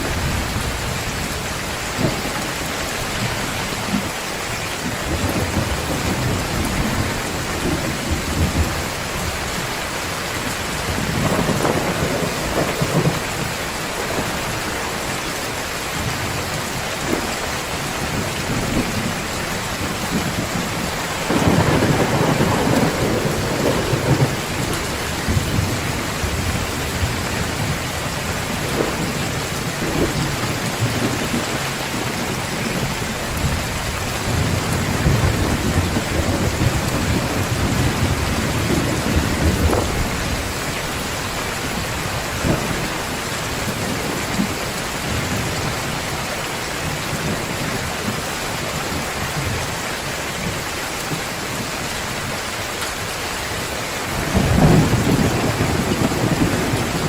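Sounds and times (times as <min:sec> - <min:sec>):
thunder rumbling: 0:00.0 - 0:49.7, 0:53.6 - 0:57.0
heavy rain pouring: 0:00.0 - 0:57.0.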